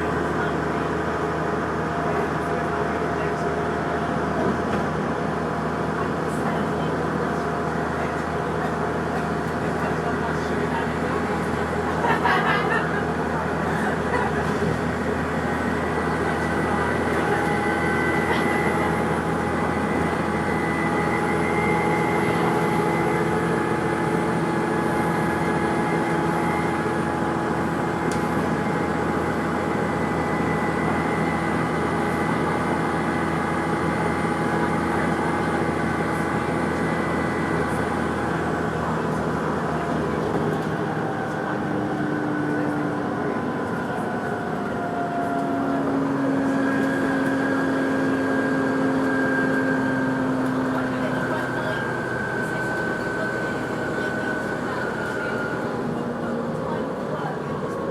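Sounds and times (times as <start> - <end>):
steady whining tones: 8.0 - 57.9.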